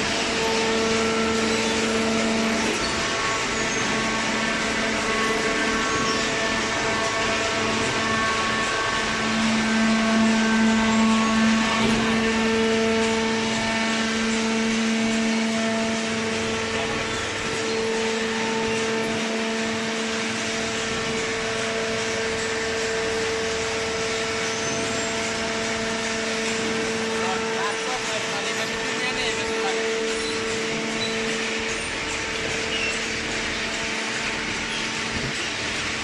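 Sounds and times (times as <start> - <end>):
hydraulic baler humming: 0.0 - 36.0.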